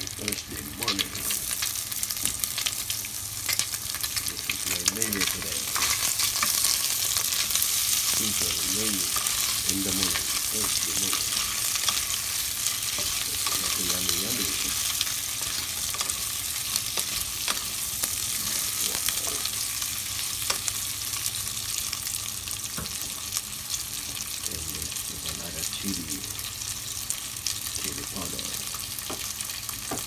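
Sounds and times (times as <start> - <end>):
meat and onion sizzling: 0.0 - 30.0.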